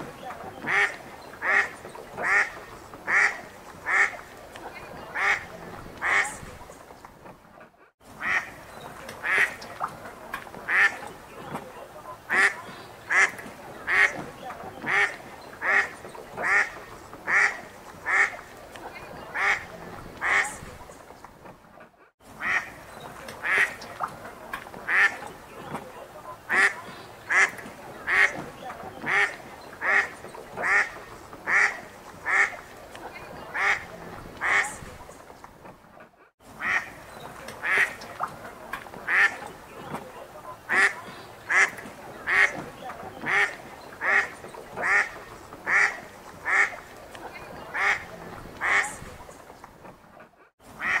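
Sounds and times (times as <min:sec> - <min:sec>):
ducks quacking: 0:00.0 - 0:06.8, 0:07.6 - 0:21.0, 0:21.8 - 0:35.2, 0:36.5 - 0:49.4, 0:50.2 - 0:51.0.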